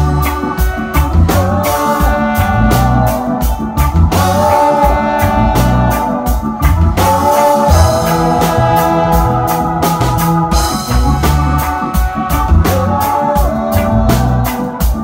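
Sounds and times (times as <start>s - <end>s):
drum kit beat: 0.0s - 15.0s
electric bass: 0.0s - 15.0s
organ chords: 0.0s - 15.0s
saxophone and trombone lines: 0.0s - 15.0s.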